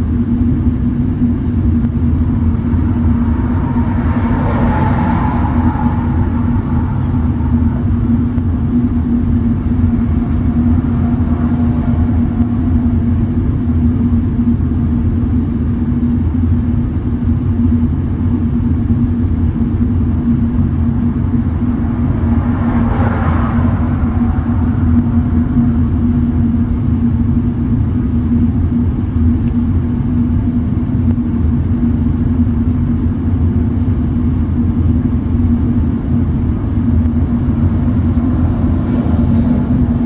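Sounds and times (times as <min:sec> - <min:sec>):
jet engines idling: 0:00.0 - 0:40.0.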